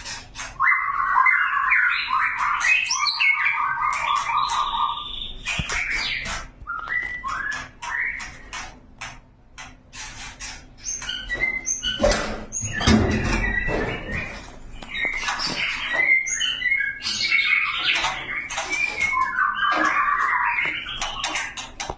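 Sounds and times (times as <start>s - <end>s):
harsh bird calls: 0.0s - 21.9s
songbird whistled calls and clicks: 0.0s - 21.9s.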